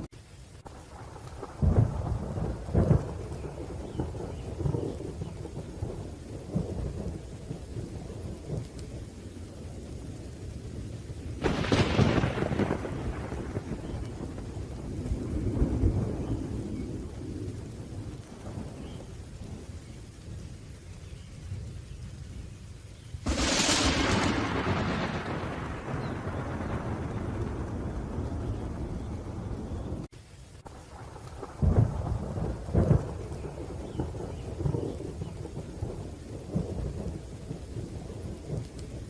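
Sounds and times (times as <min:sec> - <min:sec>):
rolling thunder rumbling: 0:00.0 - 0:39.0
steady rain: 0:00.0 - 0:39.0
loud thunderclap: 0:00.9 - 0:08.9, 0:11.4 - 0:19.7, 0:23.2 - 0:30.1, 0:30.9 - 0:39.0.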